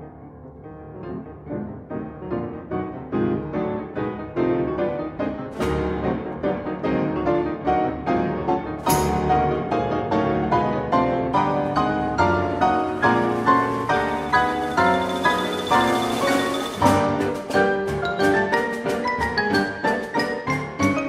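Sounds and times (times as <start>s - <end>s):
piano quick run of notes: 0.0s - 21.0s.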